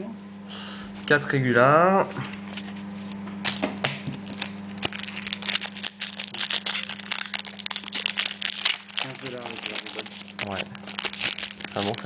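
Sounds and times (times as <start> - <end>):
foil wrapper crinkling: 2.3 - 12.0.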